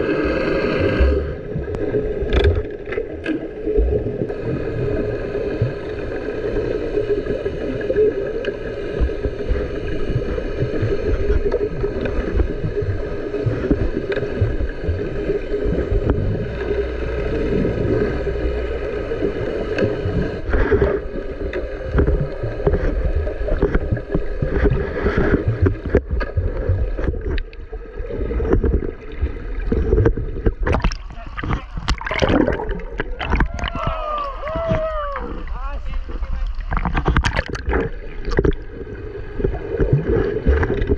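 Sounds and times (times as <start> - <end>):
rumbling wash of water: 0.0 - 40.9
underwater boat engine hum: 0.0 - 40.9.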